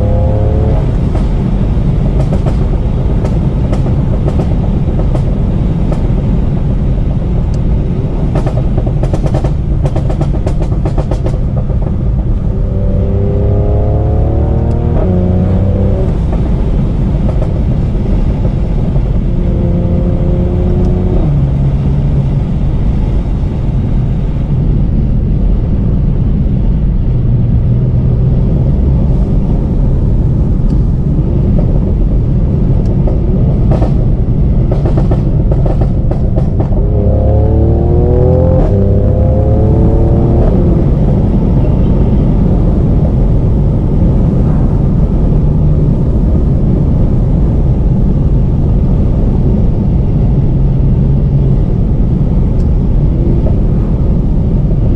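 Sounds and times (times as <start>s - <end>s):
exhaust crackles and pops: 0.0s - 23.8s, 24.5s - 54.9s
car engine and exhaust: 0.0s - 54.9s.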